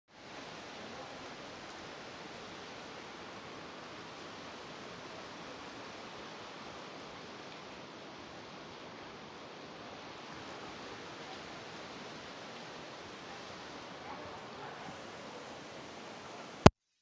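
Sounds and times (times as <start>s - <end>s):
heavy rain on concrete: 0.1s - 16.7s
running water: 0.1s - 16.7s.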